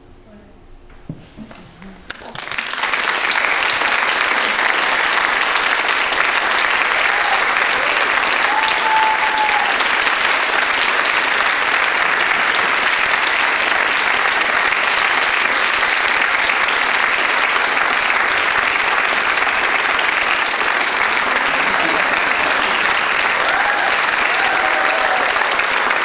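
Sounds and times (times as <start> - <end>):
audience applause: 1.5 - 26.0.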